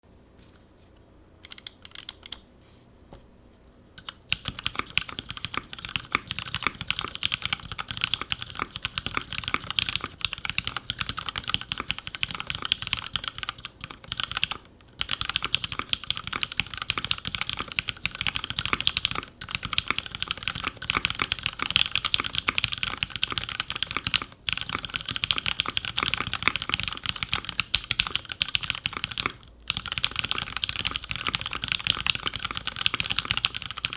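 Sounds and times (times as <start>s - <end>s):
mechanical keyboard typing: 1.4s - 2.4s, 4.0s - 33.9s.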